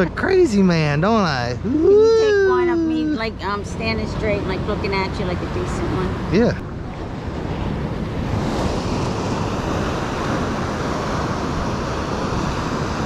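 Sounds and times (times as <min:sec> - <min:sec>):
surf waves breaking on beach: 0:01.6 - 0:13.0.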